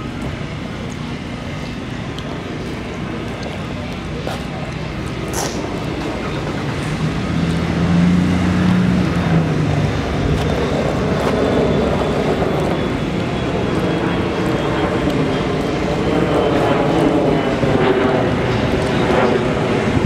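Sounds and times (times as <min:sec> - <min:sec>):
low motor hum: 0:00.0 - 0:20.0
outdoor street noise: 0:00.0 - 0:20.0.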